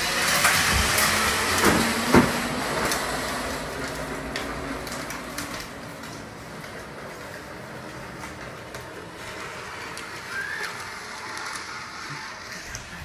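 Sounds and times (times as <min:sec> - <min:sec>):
toy car motor and wheels rumbling: 0:00.0 - 0:13.0.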